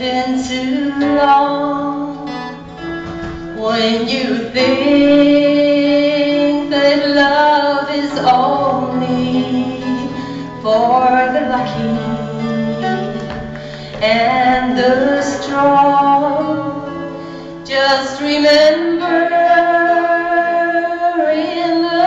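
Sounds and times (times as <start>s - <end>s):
woman singing: 0.0s - 2.6s, 3.3s - 22.0s
guitar accompaniment: 0.0s - 22.0s.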